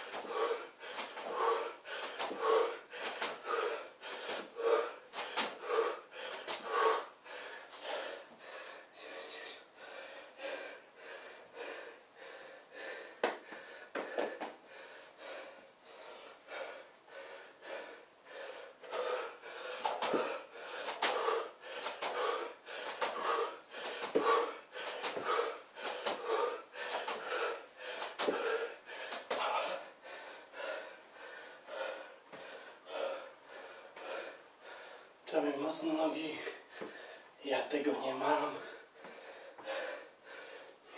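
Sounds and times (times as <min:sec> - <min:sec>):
man panting hard: 0:00.0 - 0:37.4, 0:38.2 - 0:40.9.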